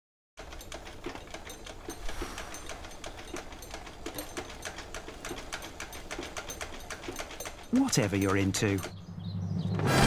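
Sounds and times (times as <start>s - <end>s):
sewing machine clattering: 0.4s - 9.0s.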